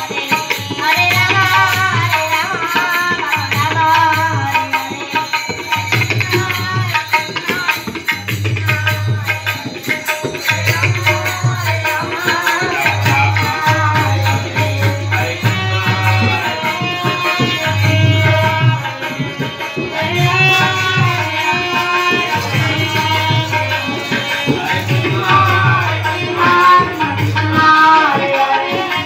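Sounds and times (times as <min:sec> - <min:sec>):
tabla drumming: 0:00.0 - 0:29.0.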